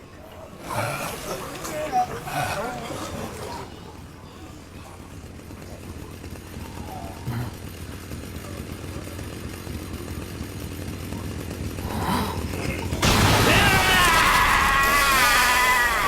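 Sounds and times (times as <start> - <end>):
chainsaw engine running rough: 0.0 - 16.0.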